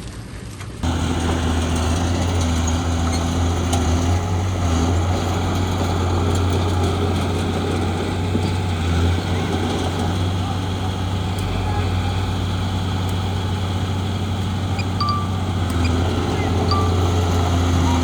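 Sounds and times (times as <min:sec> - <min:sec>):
diesel engine droning: 0:00.8 - 0:18.0.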